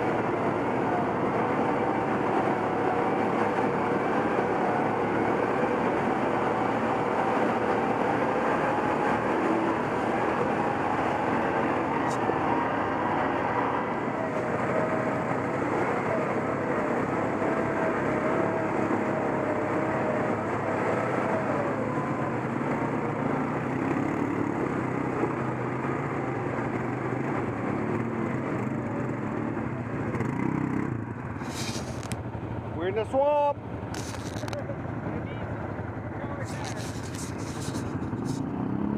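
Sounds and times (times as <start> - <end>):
atv engine under throttle: 0.0 - 38.9.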